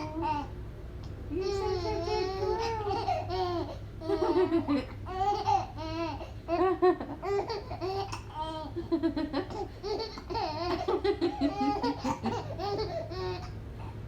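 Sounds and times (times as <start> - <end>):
baby laughing: 1.4 - 13.6.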